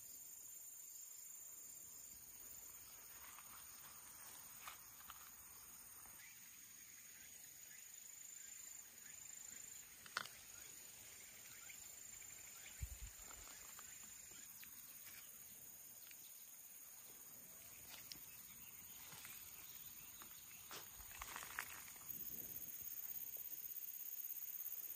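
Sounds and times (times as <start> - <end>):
faint high-pitched hiss: 0.0 - 24.9.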